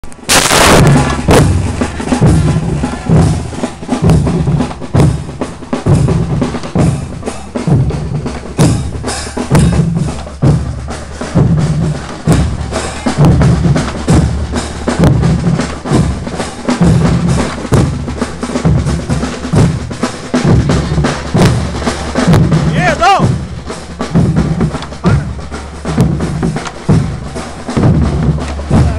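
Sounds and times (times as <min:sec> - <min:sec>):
snare drums rattling: 0:00.0 - 0:28.9
bass drums striking: 0:00.2 - 0:28.9.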